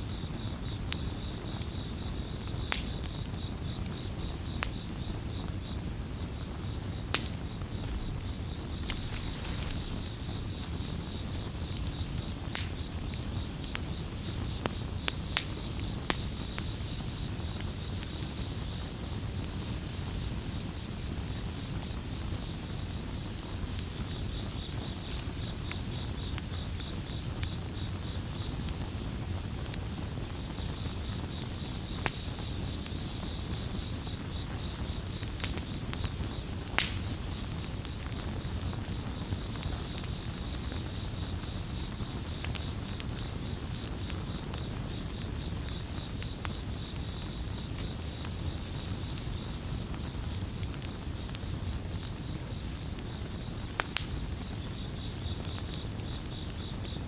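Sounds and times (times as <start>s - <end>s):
campfire crackling and popping: 0.0s - 57.0s
crickets chirping: 0.0s - 57.0s.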